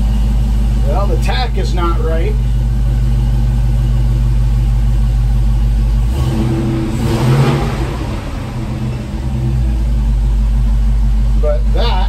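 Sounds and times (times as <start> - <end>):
vee eight engine idling: 0.0 - 12.0.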